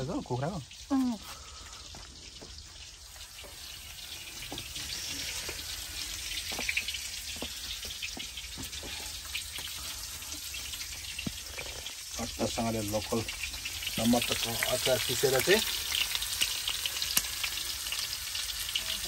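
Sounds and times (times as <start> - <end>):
food frying with sizzling pops: 0.0 - 19.0.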